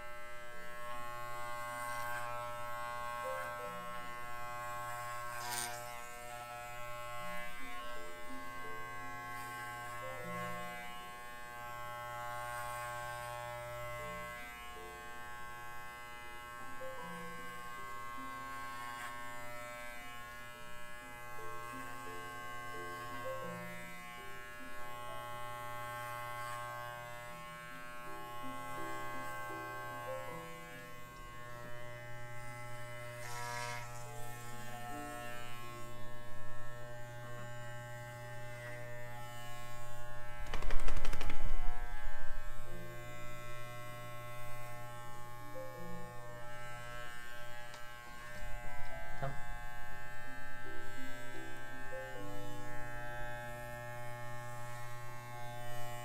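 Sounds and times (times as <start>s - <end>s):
electric hair clippers buzzing: 0.0s - 56.0s.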